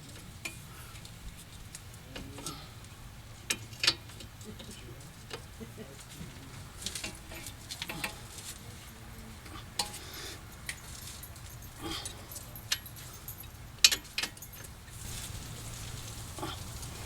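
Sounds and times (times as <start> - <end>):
hand tools clinking on metal: 0.0 - 17.0.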